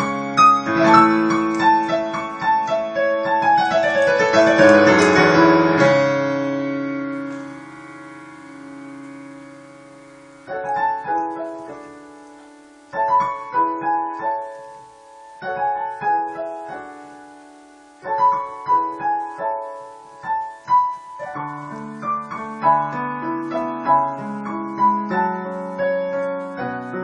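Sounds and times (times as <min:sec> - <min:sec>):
slow dreamy piano: 0:00.0 - 0:27.0.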